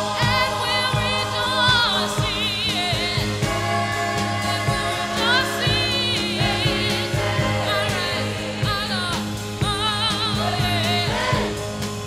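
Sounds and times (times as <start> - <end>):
band with drum beat: 0.0 - 12.0
person singing with vibrato: 0.0 - 12.0.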